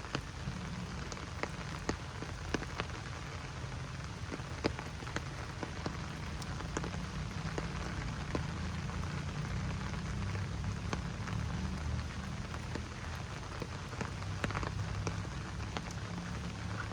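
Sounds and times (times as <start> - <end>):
rain falling in forest: 0.0 - 16.9
raindrops ticking: 0.0 - 16.9.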